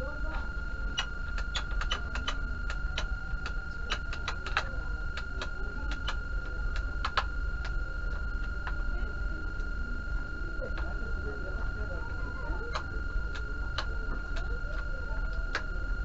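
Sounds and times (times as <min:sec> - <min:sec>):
high-pitched electronic whine: 0:00.0 - 0:16.0
low hum: 0:00.0 - 0:16.0.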